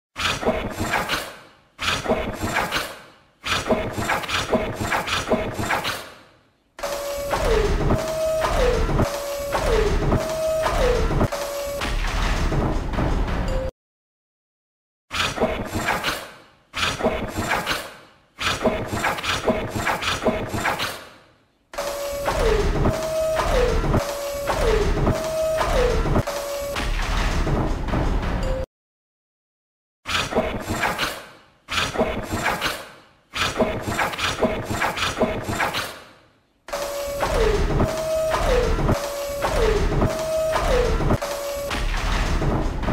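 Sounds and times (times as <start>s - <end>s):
robot mechanical clicks and rattles: 0.2s - 6.2s, 6.8s - 13.4s, 15.2s - 21.1s, 21.8s - 28.4s, 30.1s - 36.1s, 36.7s - 42.9s.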